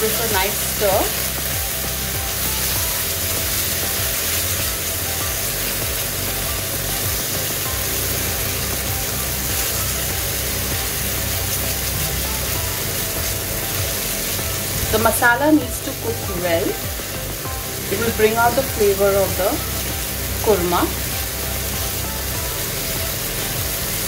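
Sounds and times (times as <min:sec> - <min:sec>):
background music: 0:00.0 - 0:24.0
paste sizzling in hot oil: 0:00.0 - 0:24.0.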